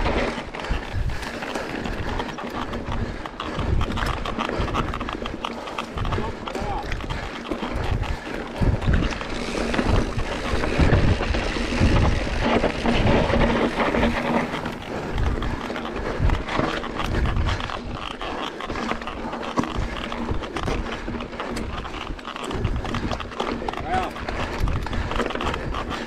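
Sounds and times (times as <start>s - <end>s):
running footsteps on rough ground: 0.0s - 26.0s
wind buffeting microphone: 0.0s - 26.0s.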